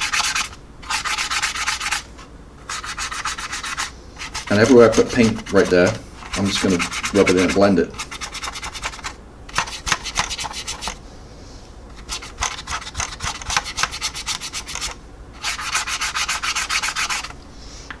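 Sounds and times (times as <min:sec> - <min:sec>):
brush rubbing on plastic: 0:00.0 - 0:11.0, 0:11.9 - 0:17.4.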